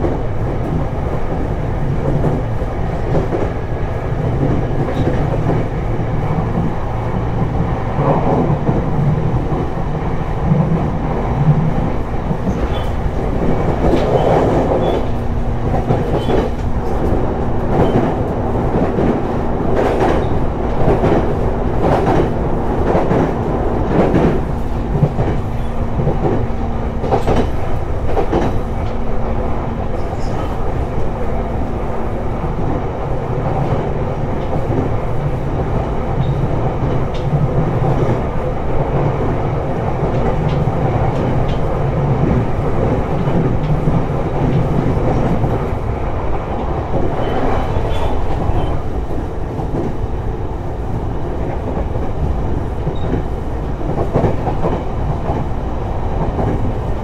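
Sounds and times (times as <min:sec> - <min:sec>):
rail joint clacks: 0:00.0 - 0:57.0
train wheels rumbling on rails: 0:00.0 - 0:57.0.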